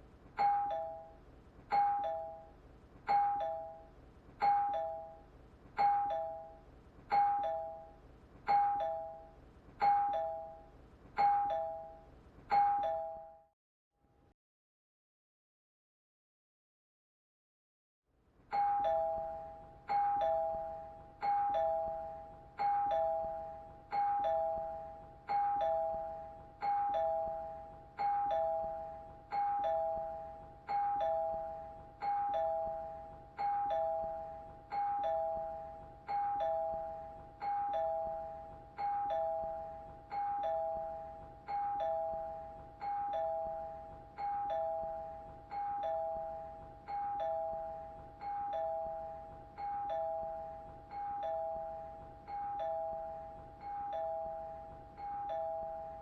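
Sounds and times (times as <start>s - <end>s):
two-tone doorbell chime: 0.4s - 13.5s, 18.5s - 56.0s.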